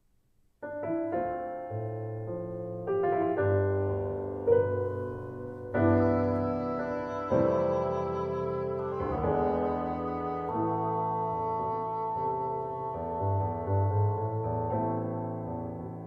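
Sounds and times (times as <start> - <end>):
piano playing slow chords: 0.6 - 16.0.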